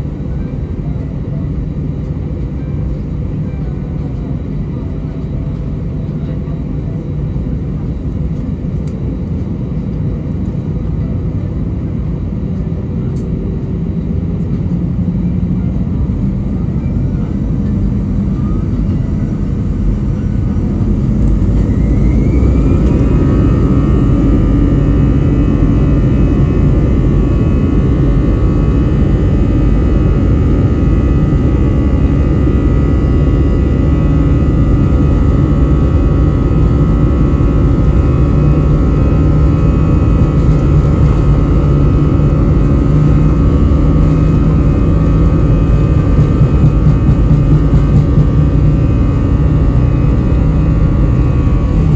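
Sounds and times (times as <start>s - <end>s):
jet engine rumble: 0.0s - 51.9s
jet engine whine: 0.0s - 51.9s.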